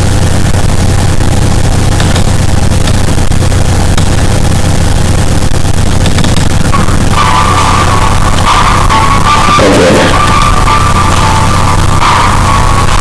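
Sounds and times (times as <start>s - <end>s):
distorted song through speakers: 0.0s - 13.0s.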